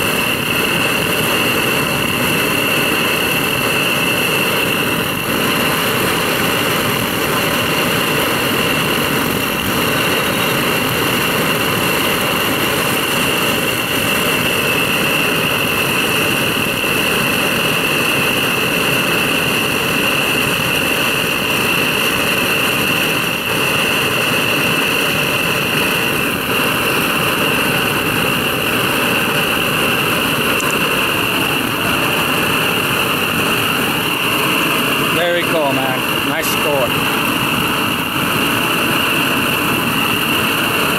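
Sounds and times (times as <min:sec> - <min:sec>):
blow torch flame hissing: 0:00.0 - 0:40.9.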